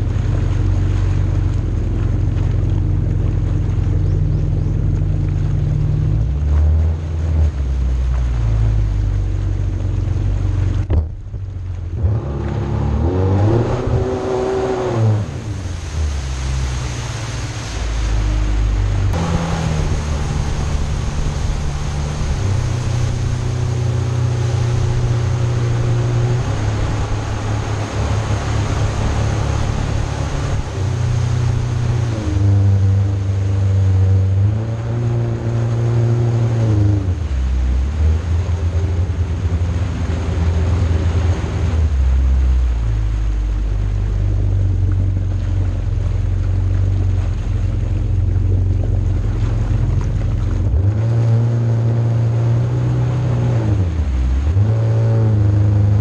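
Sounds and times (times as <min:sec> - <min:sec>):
jet ski engine running: 0:00.0 - 0:56.0
water rushing and spraying: 0:00.0 - 0:56.0.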